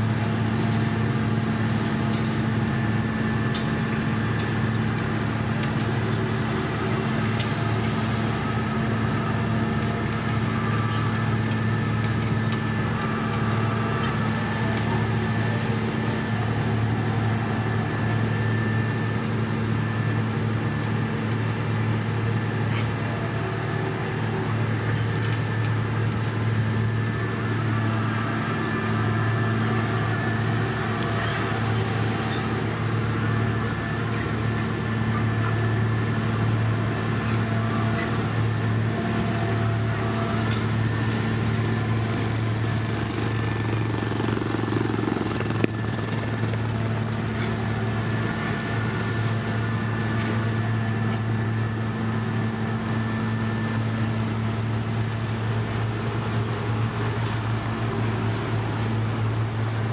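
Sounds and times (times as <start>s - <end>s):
heavy diesel engines droning: 0.0s - 59.9s.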